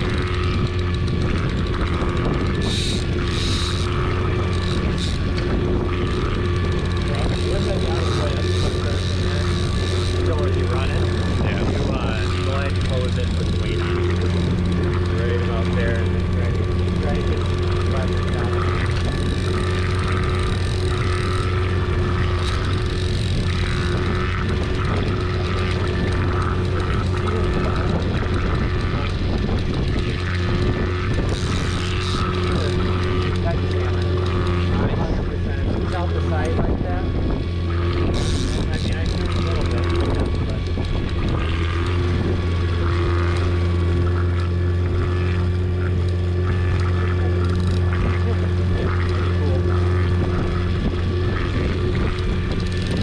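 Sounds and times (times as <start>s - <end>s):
boat motor droning: 0.0s - 53.0s
whining tones: 0.0s - 53.0s.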